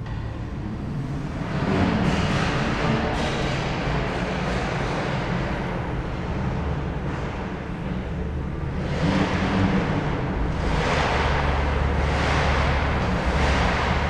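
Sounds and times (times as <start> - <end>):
car engines in slow traffic: 0.0 - 14.0
engines revving: 0.0 - 14.0.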